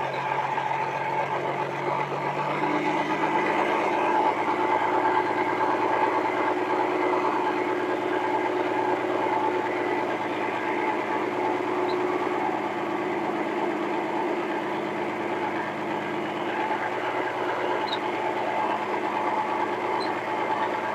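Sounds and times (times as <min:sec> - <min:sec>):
forklift engine revving: 0:00.0 - 0:20.9
steady whine: 0:00.0 - 0:20.9.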